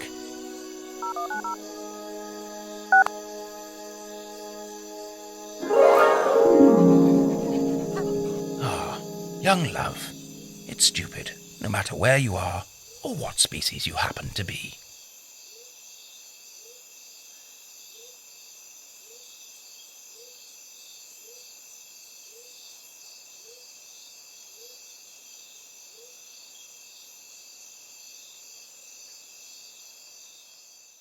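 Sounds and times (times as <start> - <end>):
insect chorus: 0.0 - 5.7, 6.7 - 31.0.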